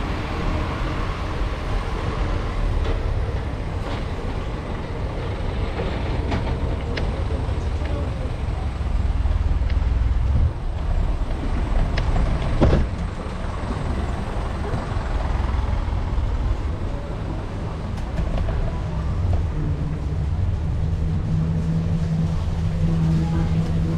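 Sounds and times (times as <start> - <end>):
street noise: 0.0 - 23.9
truck engine rumbling: 0.0 - 23.9.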